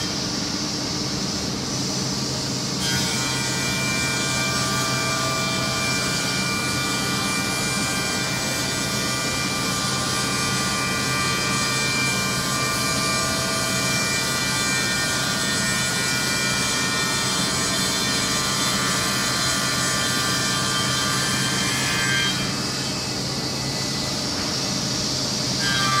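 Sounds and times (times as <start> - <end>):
machine spindle whine: 0.0 - 26.0.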